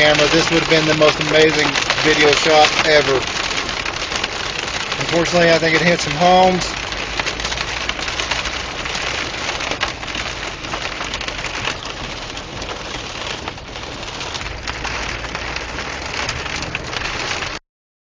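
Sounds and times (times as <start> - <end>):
heavy rain falling: 0.0 - 17.6.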